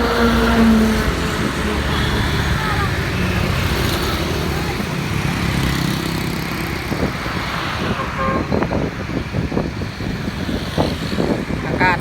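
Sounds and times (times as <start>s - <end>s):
vehicle engines and tyre noise: 0.0s - 12.0s.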